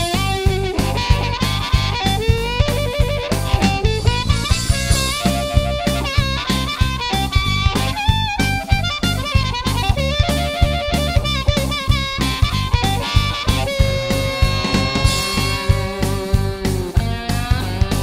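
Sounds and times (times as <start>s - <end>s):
background music with steady beat: 0.0s - 18.0s.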